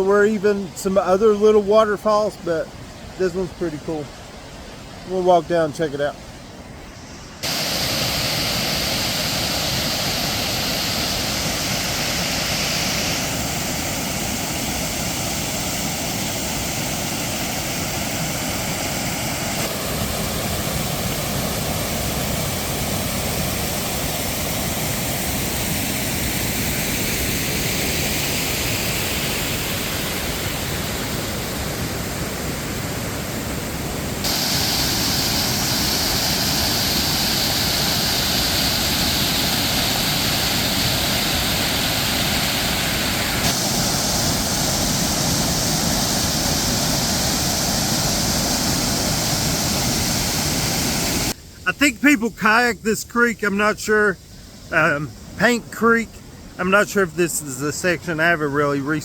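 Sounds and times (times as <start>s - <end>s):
waterfall and creek rushing: 0.0s - 59.0s.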